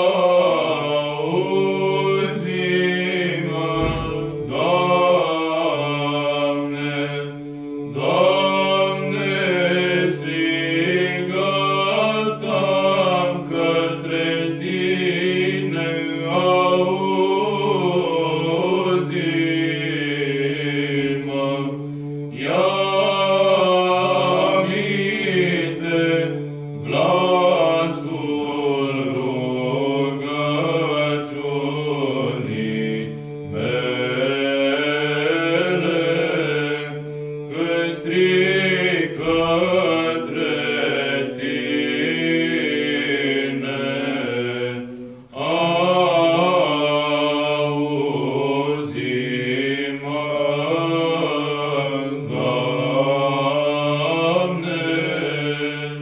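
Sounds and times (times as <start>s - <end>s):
unaccompanied chanters singing: 0.0s - 21.7s, 22.3s - 56.0s
held vocal drone: 0.0s - 56.0s.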